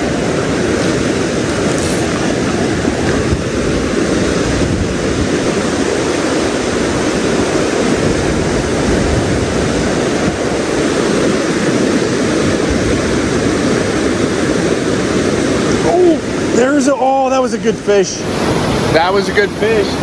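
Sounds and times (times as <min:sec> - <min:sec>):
rushing mountain stream: 0:00.0 - 0:20.0.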